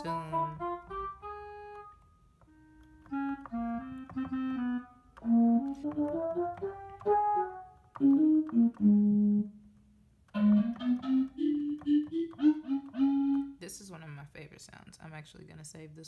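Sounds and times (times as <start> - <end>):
synth clarinet and flute melody: 0.0 - 9.6, 10.3 - 13.6.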